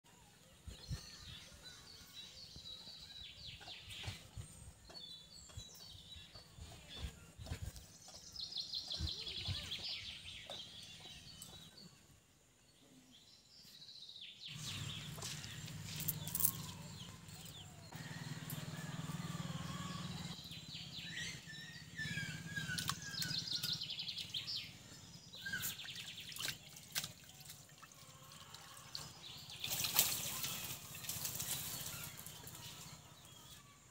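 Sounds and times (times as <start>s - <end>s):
birds chirping and calling: 0.7s - 12.0s, 14.5s - 27.4s, 28.1s - 33.9s.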